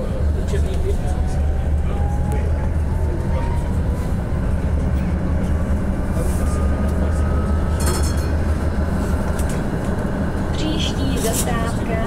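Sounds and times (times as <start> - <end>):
tram motors rumbling: 0.0 - 12.0.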